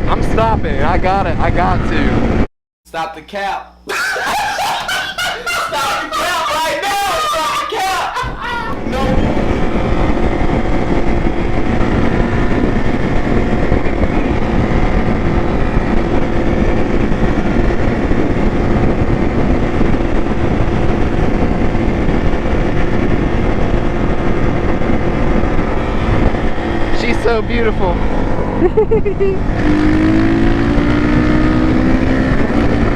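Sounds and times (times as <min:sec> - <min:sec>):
motorcycle engine running: 0:00.0 - 0:02.5, 0:08.4 - 0:32.9.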